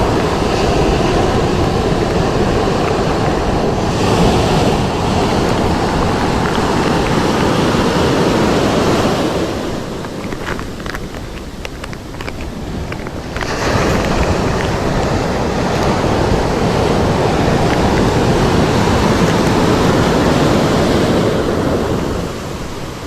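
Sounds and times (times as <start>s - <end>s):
ocean surf washing on beach: 0.0s - 23.0s
wind buffeting microphone: 0.0s - 23.0s.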